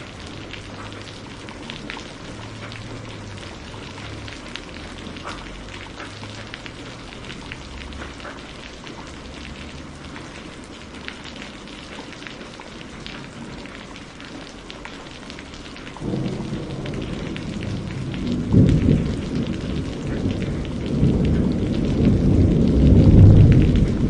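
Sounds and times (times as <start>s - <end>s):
raindrops pattering: 0.0s - 24.0s
steady rain falling: 0.0s - 24.0s.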